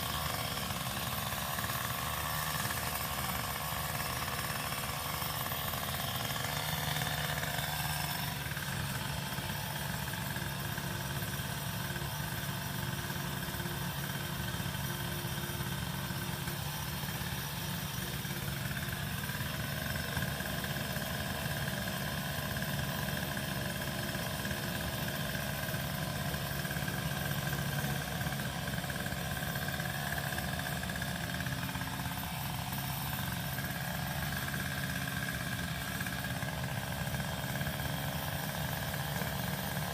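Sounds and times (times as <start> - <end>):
small engine idling: 0.0 - 39.9.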